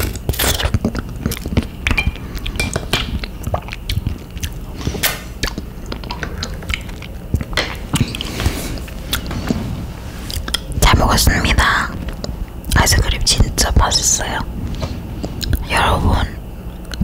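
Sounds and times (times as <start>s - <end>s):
mouth chewing ice cream: 0.0s - 9.6s, 10.2s - 15.7s.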